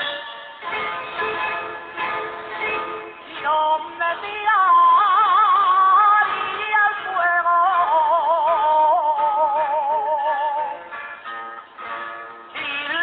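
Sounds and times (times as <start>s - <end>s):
person singing with vibrato: 0.0s - 13.0s
plucked string accompaniment: 0.0s - 13.0s.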